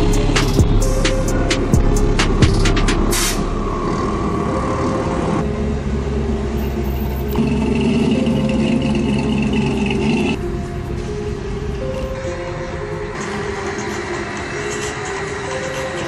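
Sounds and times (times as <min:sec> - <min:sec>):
pickup truck engines driving past: 0:00.0 - 0:16.0.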